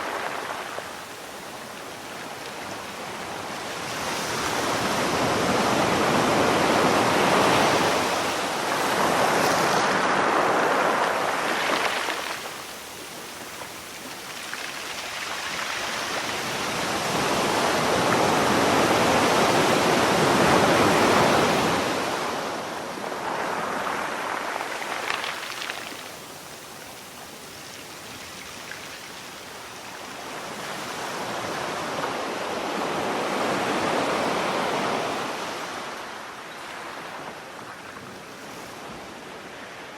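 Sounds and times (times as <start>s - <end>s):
sea waves washing onto shore: 0.0s - 39.9s.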